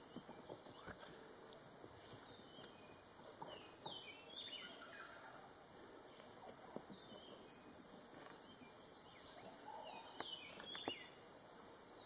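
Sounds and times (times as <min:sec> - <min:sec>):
birds calling: 0:00.0 - 0:11.2.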